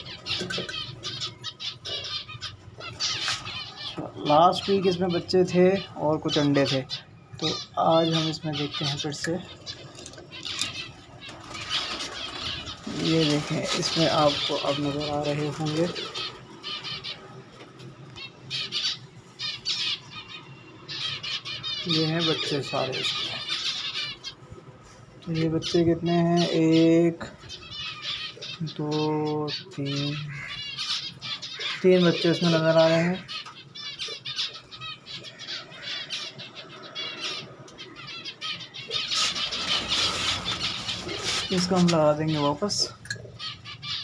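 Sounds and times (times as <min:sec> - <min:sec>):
finches chirping: 0:00.0 - 0:44.0.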